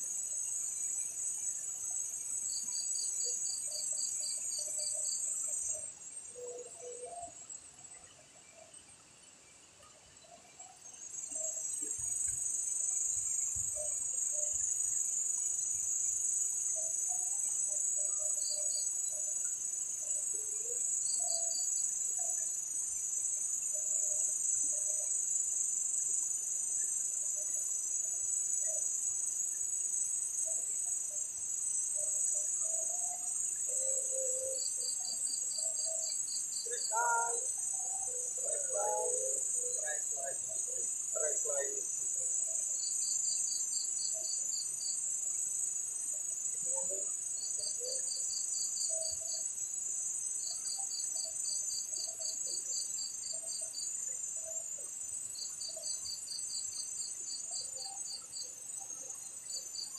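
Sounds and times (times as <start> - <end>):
crickets trilling: 0.0 - 9.0, 10.2 - 59.9
insect rapid chirps: 0.0 - 59.9.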